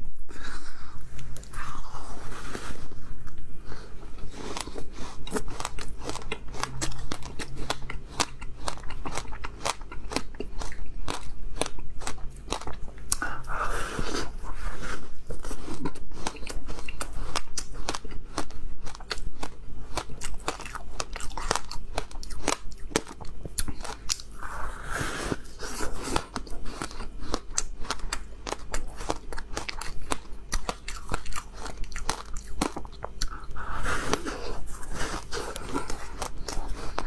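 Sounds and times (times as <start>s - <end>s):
ice crunching while chewed: 4.2s - 14.4s, 15.2s - 24.4s, 25.0s - 37.0s.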